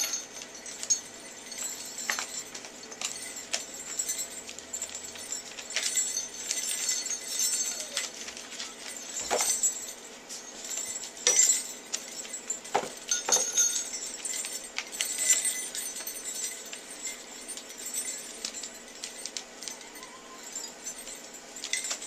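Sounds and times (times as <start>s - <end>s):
sleigh bells jingling: 0.0s - 22.0s.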